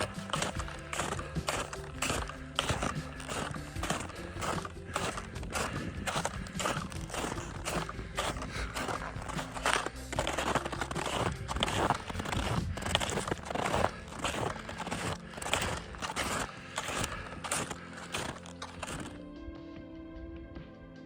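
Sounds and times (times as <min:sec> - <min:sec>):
boots crunching on snow: 0:00.0 - 0:19.2
music playing: 0:00.0 - 0:21.0.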